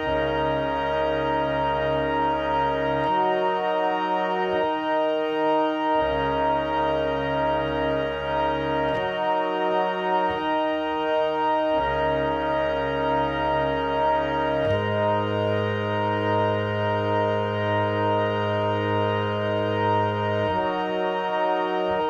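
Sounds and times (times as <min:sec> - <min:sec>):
organ-like chords: 0:00.0 - 0:22.0.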